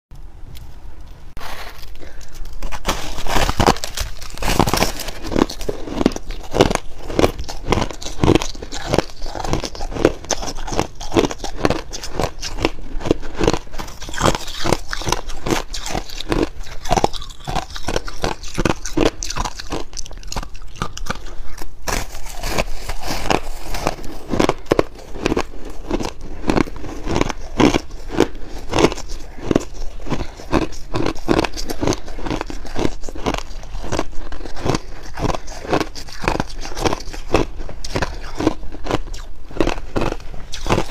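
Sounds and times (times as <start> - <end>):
shaved ice being chewed: 1.4 - 40.9.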